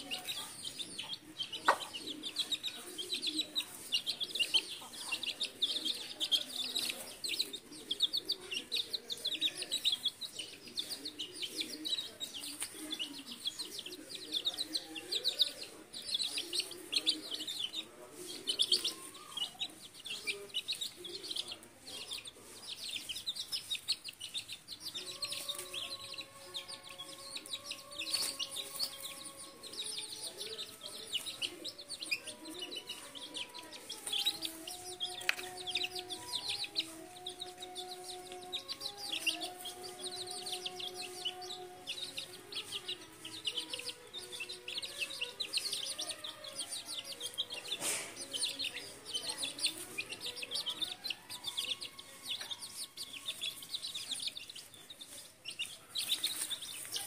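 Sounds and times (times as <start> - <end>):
hen clucking: 0.0 - 53.7
chicks peeping: 0.0 - 57.0.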